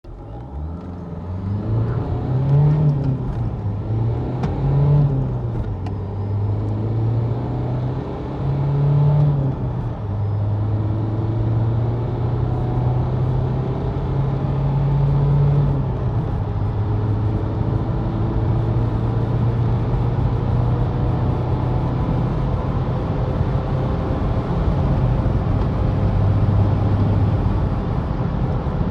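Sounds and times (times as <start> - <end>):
diesel engine accelerating hard: 0.0 - 28.9.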